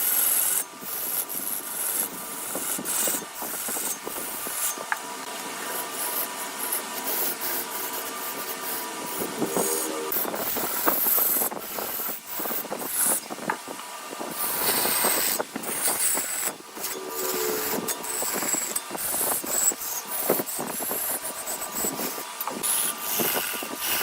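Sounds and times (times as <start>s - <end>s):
turning tool scraping wood: 0.1s - 5.0s, 5.6s - 24.0s
wood lathe running: 0.1s - 24.0s.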